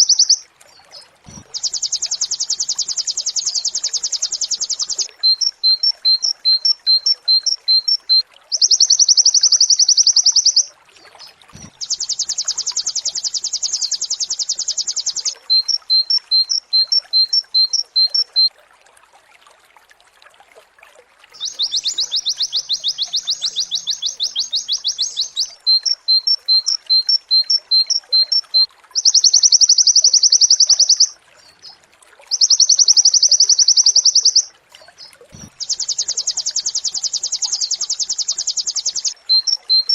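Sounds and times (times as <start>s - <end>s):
bird trilling: 0.0s - 0.4s, 1.3s - 10.7s, 11.6s - 18.5s, 21.4s - 31.2s, 32.3s - 34.5s, 35.3s - 39.9s.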